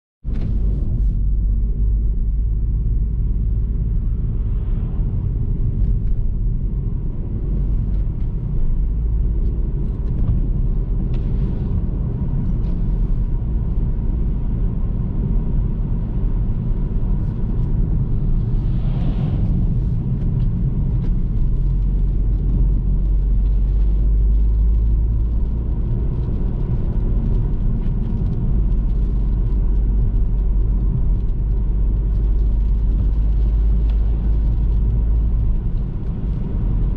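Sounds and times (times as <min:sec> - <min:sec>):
car engine and road noise: 0:00.2 - 0:36.9.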